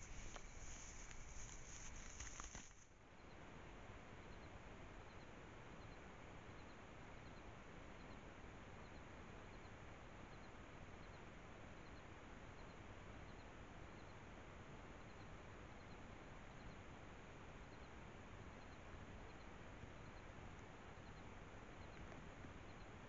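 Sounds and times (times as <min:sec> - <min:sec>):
low hiss: 0:00.0 - 0:23.0.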